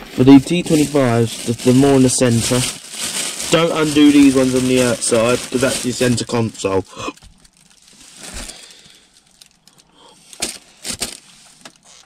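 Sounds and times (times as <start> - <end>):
rustling and handling noise: 0.0 - 12.0.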